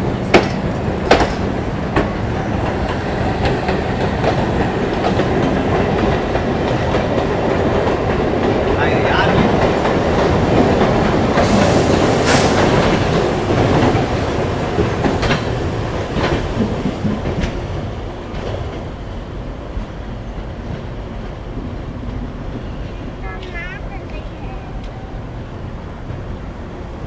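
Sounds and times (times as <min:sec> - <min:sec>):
train wheels clattering on track: 0:00.0 - 0:27.0.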